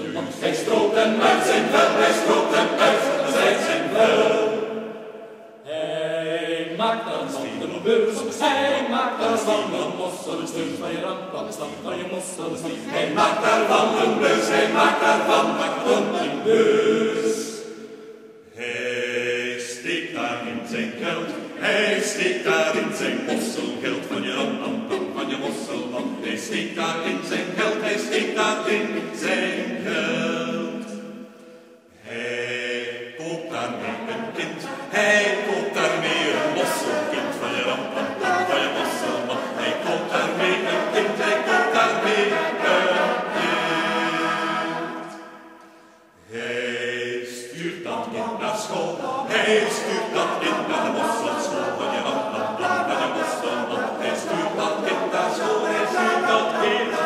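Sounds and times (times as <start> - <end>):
men's choir singing a cappella: 0.0 - 57.0.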